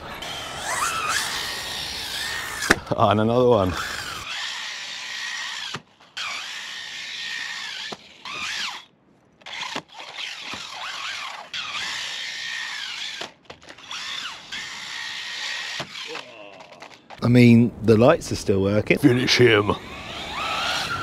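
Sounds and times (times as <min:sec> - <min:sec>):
electric motor whining: 0:00.0 - 0:17.2, 0:19.5 - 0:21.0.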